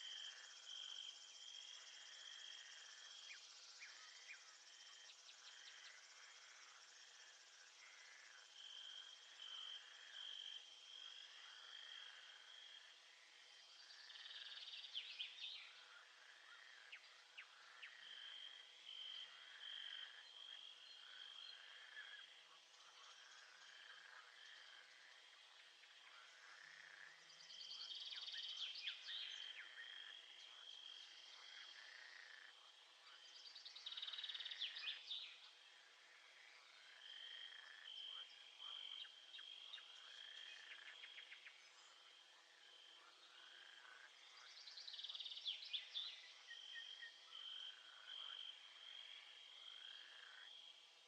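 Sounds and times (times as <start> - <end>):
frogs croaking: 0.0 - 51.0.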